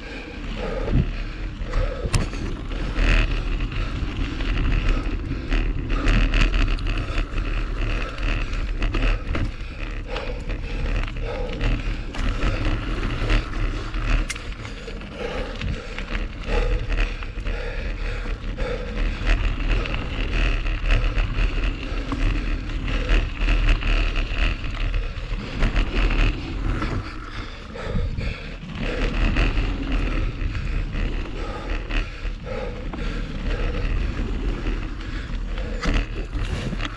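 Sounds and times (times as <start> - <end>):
bike clicking and rattling: 0.0 - 36.9
wind rumble on microphone: 0.0 - 36.9.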